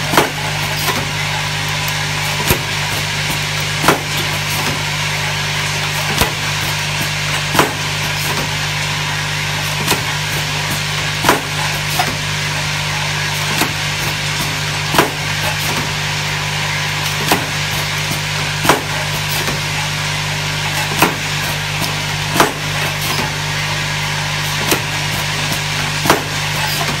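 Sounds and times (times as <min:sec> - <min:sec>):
machine motor hum and hiss: 0:00.0 - 0:27.0.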